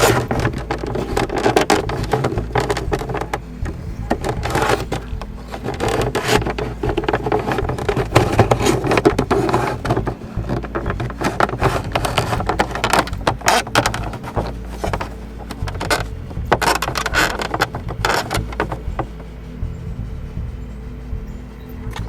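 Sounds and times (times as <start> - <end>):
scraping and rubbing on plastic trim: 0.0 - 19.4.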